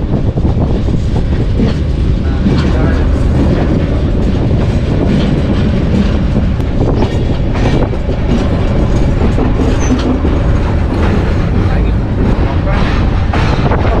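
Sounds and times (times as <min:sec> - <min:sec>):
passenger train rumbling: 0:00.0 - 0:14.0
wheel clacks over rail joints: 0:00.0 - 0:14.0.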